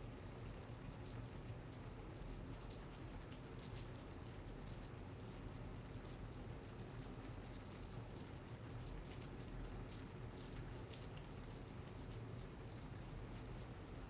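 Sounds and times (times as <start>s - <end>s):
raindrops ticking on a surface: 0.1s - 14.0s.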